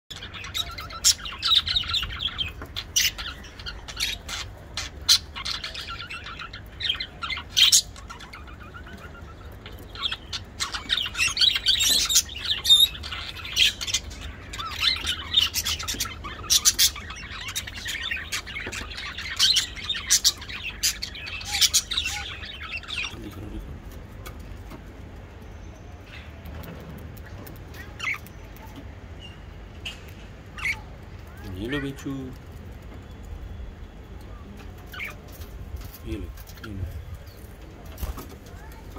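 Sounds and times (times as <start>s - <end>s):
budgerigars chirping and chattering: 0.1s - 32.4s, 33.3s - 38.9s.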